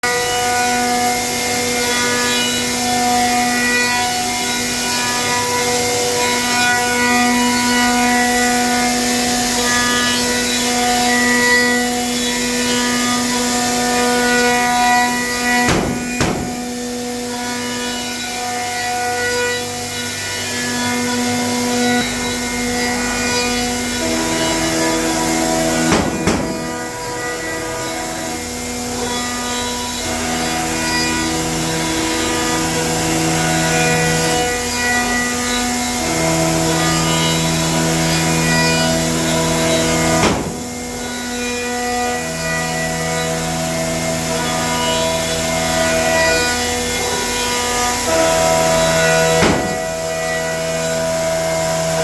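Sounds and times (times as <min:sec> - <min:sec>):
router spindles milling wood: 0:00.0 - 0:52.0.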